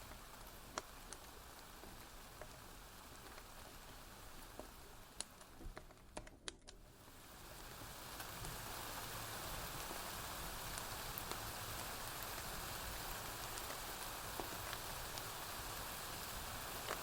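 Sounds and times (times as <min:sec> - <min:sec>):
steady rain falling: 0:00.0 - 0:06.2, 0:06.8 - 0:17.0
wood fire crackling pops: 0:00.0 - 0:06.9, 0:07.5 - 0:08.7, 0:09.5 - 0:17.0.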